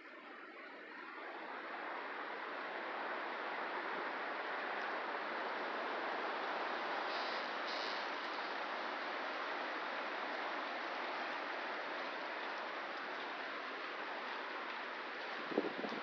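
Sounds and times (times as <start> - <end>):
strong wind through trees: 0.0 - 16.0.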